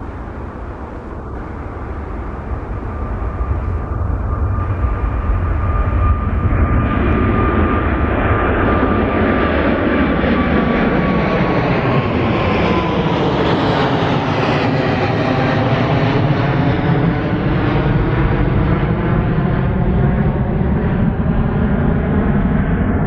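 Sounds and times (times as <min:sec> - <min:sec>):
jet aircraft rumble and whine: 0:00.0 - 0:23.0.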